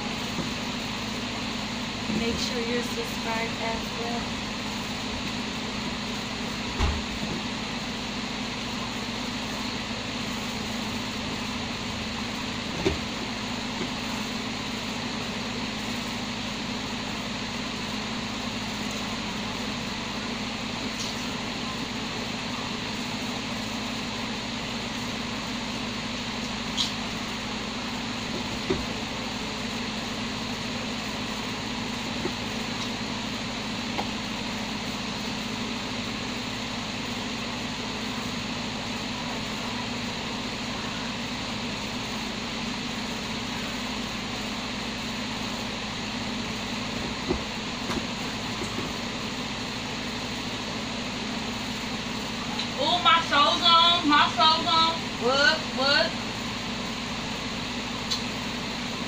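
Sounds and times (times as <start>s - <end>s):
mechanical hum: 0.0s - 59.0s.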